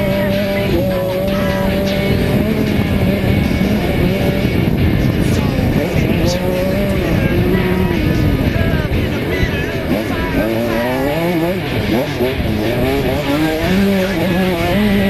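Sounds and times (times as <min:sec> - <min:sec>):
background music: 0:00.0 - 0:15.0
two-stroke motocross bike engine: 0:00.0 - 0:15.0.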